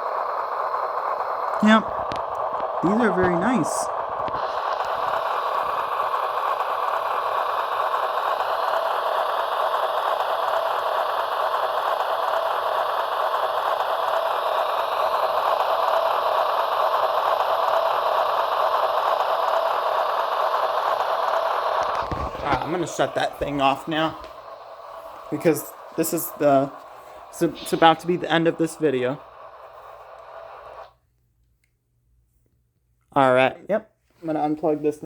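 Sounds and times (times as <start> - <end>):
diesel engine sound through small speaker: 0.0 - 31.0.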